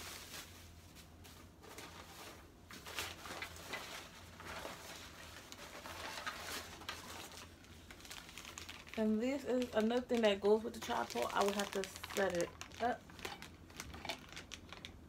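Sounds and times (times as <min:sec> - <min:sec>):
low steady hum: 0:00.0 - 0:15.0
plastic packaging rustling: 0:00.0 - 0:15.0.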